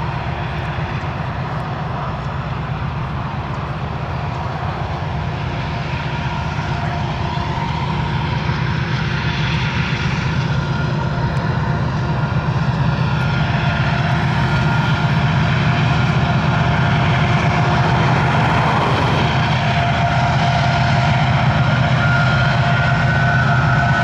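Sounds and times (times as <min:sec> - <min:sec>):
locomotive engine drone: 0:00.0 - 0:24.0.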